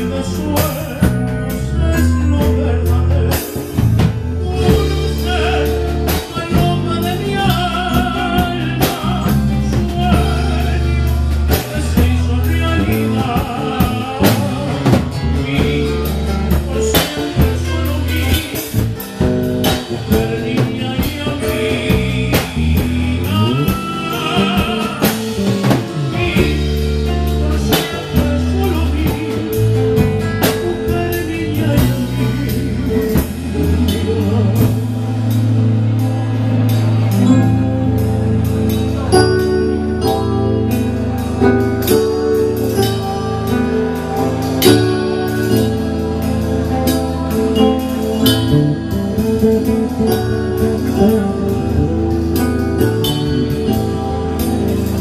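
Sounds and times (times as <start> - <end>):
bass line: 0.0 - 55.0
drums: 0.0 - 55.0
person singing: 0.0 - 55.0.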